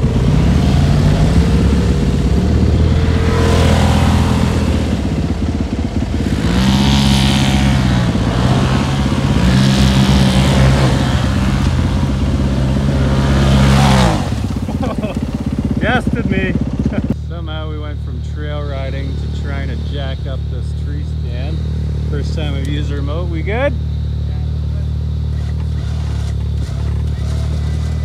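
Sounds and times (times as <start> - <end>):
engines revving hard: 0.0 - 28.0.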